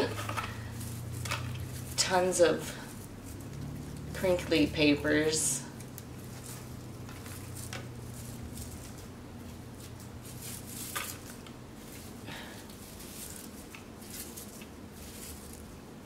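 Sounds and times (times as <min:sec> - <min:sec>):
low steady hum: 0:00.0 - 0:16.0
paper shred rustling: 0:00.0 - 0:16.0.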